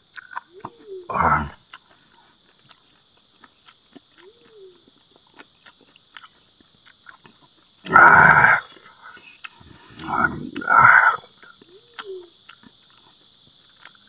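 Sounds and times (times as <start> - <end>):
chewing with wet mouth clicks: 0.0 - 14.0.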